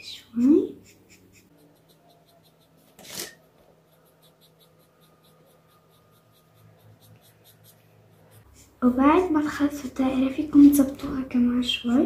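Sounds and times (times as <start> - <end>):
marker scratching on paper: 0.4 - 10.9.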